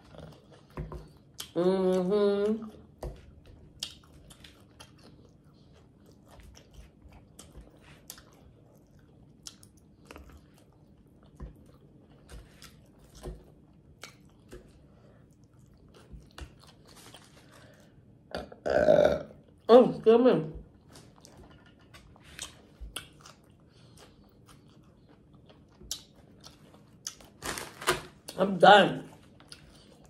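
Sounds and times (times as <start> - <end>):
person chewing crunchy food: 2.7 - 19.6, 20.7 - 28.4, 29.1 - 30.0.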